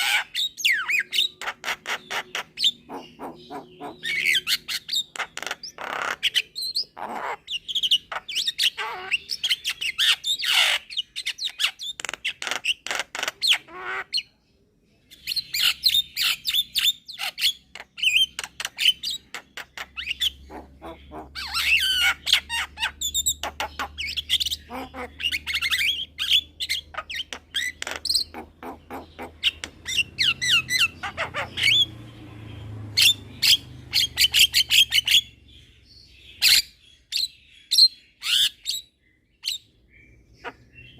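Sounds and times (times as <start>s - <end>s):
bird chattering squawky calls: 0.0s - 14.3s, 15.2s - 32.1s, 33.0s - 40.9s.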